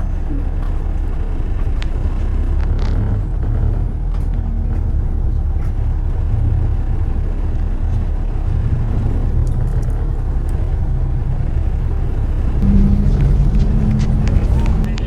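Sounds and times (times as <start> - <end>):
car traffic rumble: 0.0 - 15.0.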